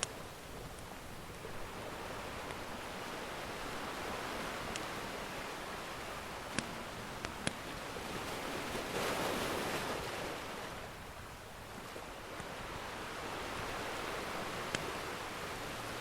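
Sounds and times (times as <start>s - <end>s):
ocean surf washing: 0.0s - 16.0s.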